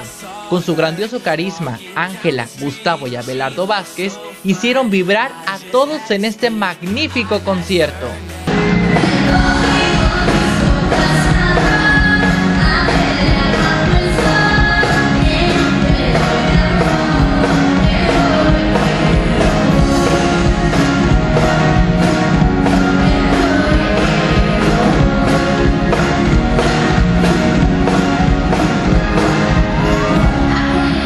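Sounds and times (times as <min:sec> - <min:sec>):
person singing: 0:00.0 - 0:31.0
drum kit beat: 0:05.6 - 0:31.0.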